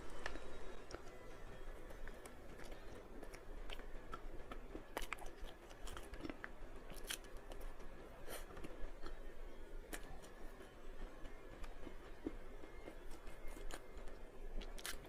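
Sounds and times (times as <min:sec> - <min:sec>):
person chewing crunchy food: 0:00.8 - 0:15.0.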